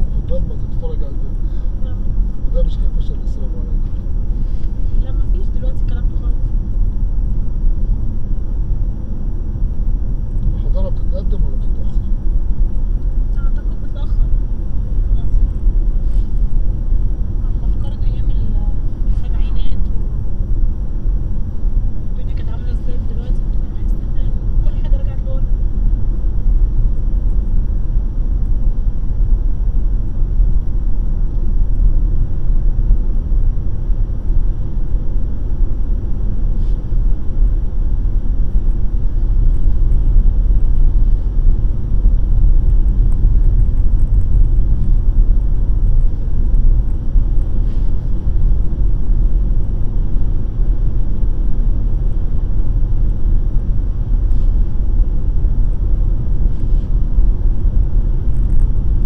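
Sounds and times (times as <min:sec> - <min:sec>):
car road and engine rumble: 0:00.0 - 0:59.0
faint high-pitched whine: 0:00.0 - 0:59.0.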